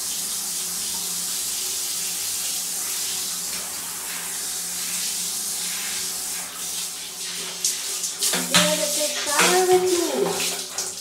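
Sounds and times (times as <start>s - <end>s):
shower spraying on glass: 1.8s - 11.0s.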